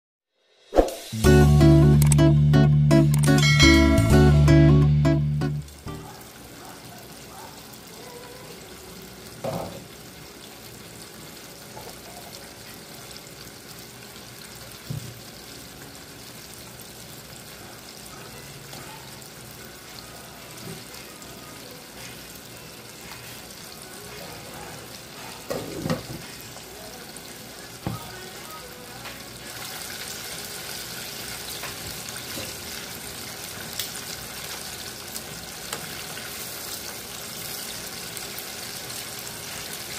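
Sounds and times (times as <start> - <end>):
deep-frying sizzle: 0.5 - 39.9.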